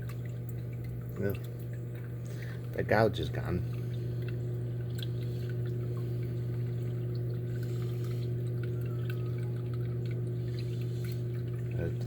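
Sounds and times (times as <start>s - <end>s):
pump humming: 0.0s - 12.0s
water flowing: 0.0s - 12.0s.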